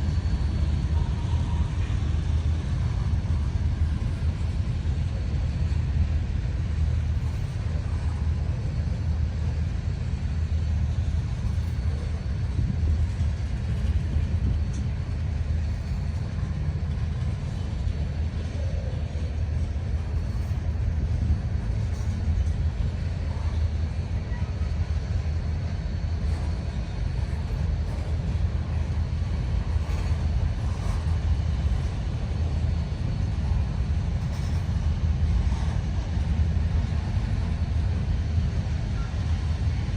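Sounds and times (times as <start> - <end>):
freight train rumbling by: 0.0 - 39.9.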